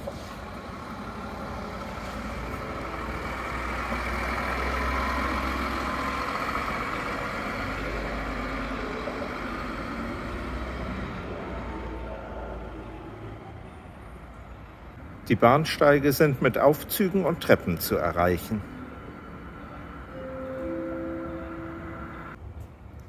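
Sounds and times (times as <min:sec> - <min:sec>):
bus engines running: 0:00.0 - 0:23.0.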